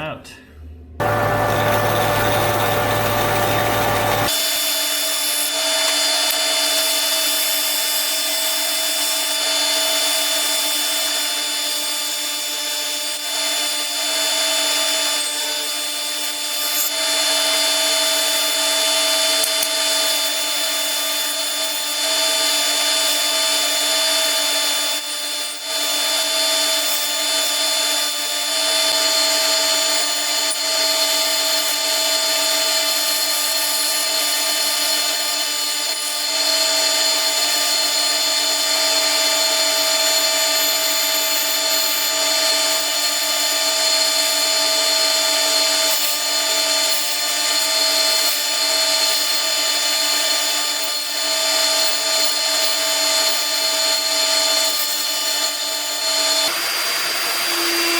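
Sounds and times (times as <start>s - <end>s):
bandsaw cutting wood: 1.0s - 57.9s.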